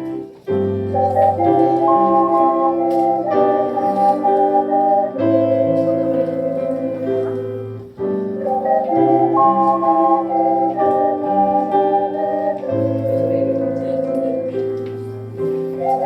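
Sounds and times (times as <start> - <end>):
organ-like keyboard chords: 0.0 - 16.0.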